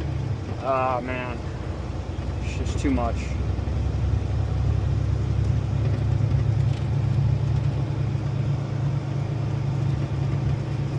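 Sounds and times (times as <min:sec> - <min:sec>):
truck engine droning: 0:00.0 - 0:10.9.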